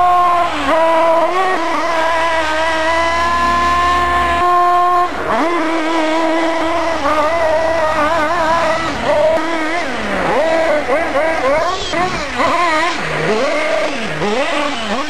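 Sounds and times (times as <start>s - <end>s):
small nitro engine revving: 0.0s - 15.0s.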